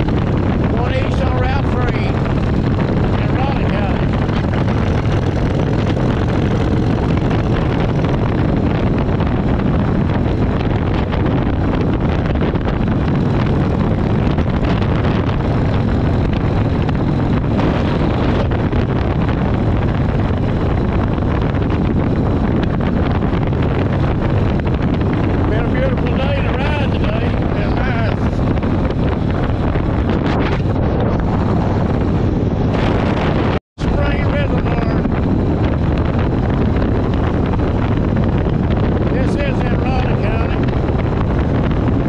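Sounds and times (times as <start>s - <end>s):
motorcycle engine cruising: 0.0s - 42.0s
wind on microphone: 0.0s - 42.0s.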